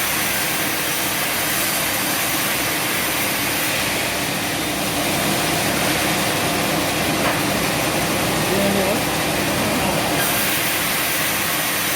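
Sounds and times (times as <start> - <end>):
sawmill machinery hissing: 0.0 - 11.9.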